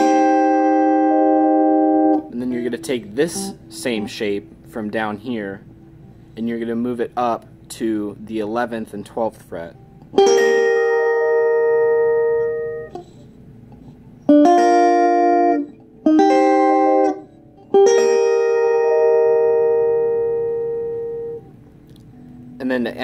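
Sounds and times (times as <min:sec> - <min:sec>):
electric guitar chords ringing: 0:00.0 - 0:23.0.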